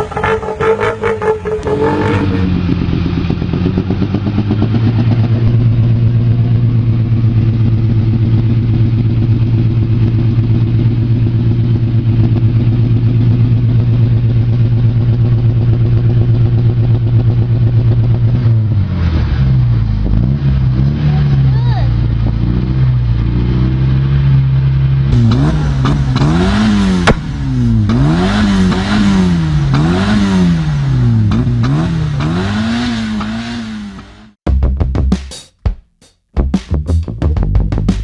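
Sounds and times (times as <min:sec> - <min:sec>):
engine-like drone: 0:00.0 - 0:21.3, 0:22.0 - 0:34.4.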